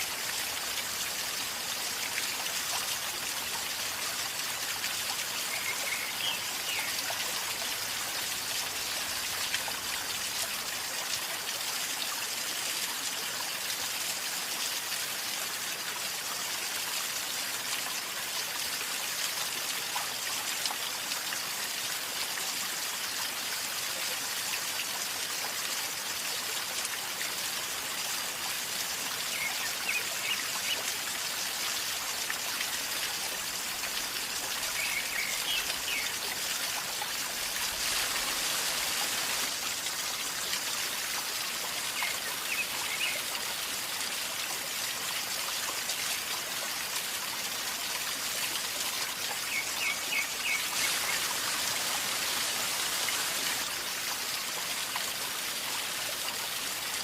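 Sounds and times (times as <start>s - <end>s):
river water gurgling: 0.0s - 12.6s, 22.9s - 57.0s.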